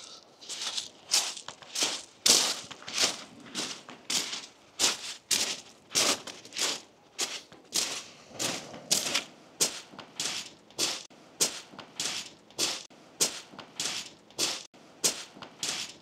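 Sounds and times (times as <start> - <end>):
footsteps on shingle: 0.0 - 16.0.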